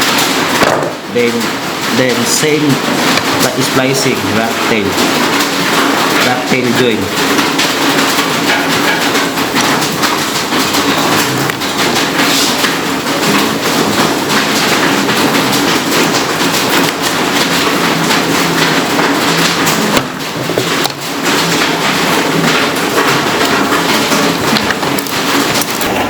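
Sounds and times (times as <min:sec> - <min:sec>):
wires being twisted scraping: 0:01.1 - 0:26.0.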